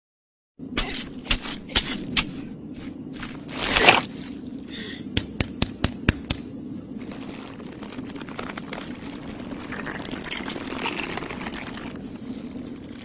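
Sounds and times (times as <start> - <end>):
low steady hum: 0.6 - 13.0.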